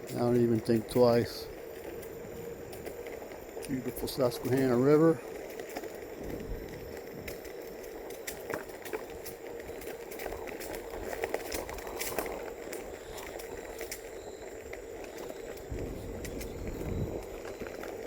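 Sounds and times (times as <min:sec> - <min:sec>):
tyre crackles on path: 0:00.0 - 0:18.0
wind rumble on microphone: 0:00.0 - 0:18.0.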